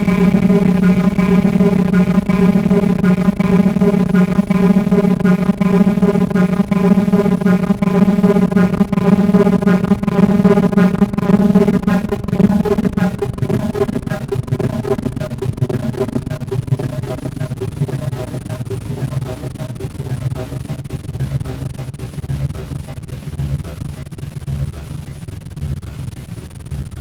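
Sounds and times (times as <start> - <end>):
synthesizer drone: 0.0 - 23.0.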